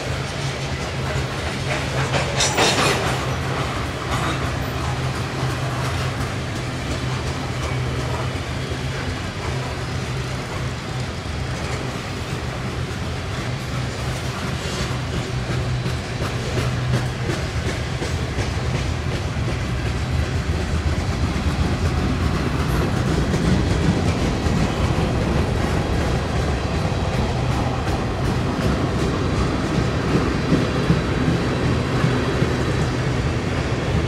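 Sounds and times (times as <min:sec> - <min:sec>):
low train rumble: 0:00.0 - 0:34.0
train wheels clattering over rails: 0:00.0 - 0:34.0.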